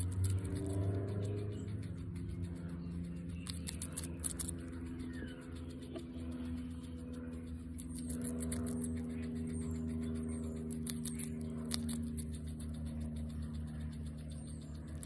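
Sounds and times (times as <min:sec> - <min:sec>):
guinea pig crunching pepper: 0:00.0 - 0:15.0
steady low hum: 0:00.0 - 0:15.0.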